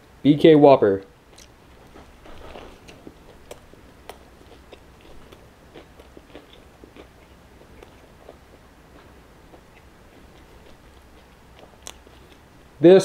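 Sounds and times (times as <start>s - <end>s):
wet chewing with mouth clicks: 1.3s - 12.5s.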